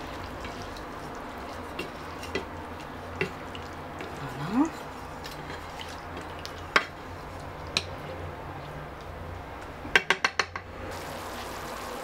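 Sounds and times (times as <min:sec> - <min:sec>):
livers sizzling in oil: 0:00.0 - 0:08.8, 0:10.8 - 0:12.0.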